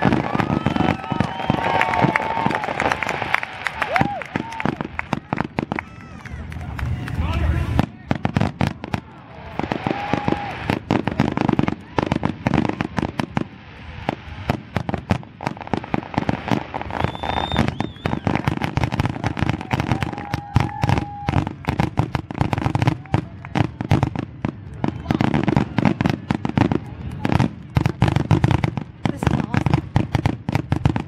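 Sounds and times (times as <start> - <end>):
whistling firework shells: 0.0 - 6.0, 8.2 - 28.6
fireworks bangs and crackles: 0.0 - 31.0.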